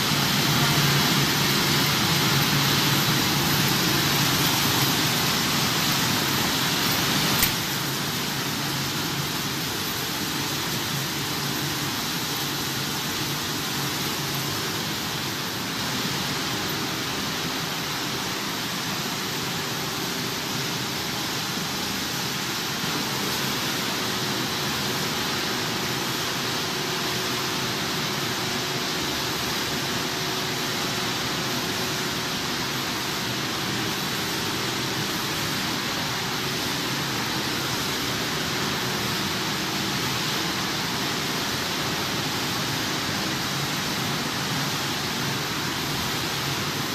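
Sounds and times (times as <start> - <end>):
blower fans rushing air: 0.0 - 46.9.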